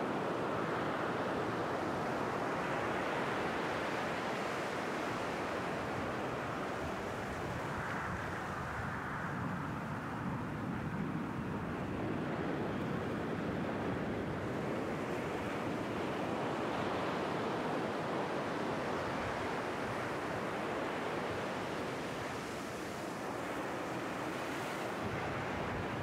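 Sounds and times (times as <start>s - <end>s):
small waves washing on beach: 0.0s - 26.0s.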